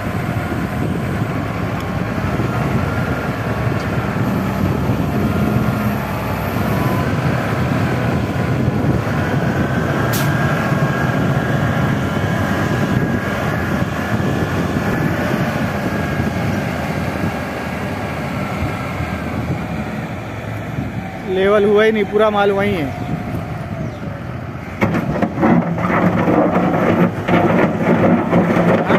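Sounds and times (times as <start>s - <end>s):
diesel engine running under load: 0.0s - 28.9s.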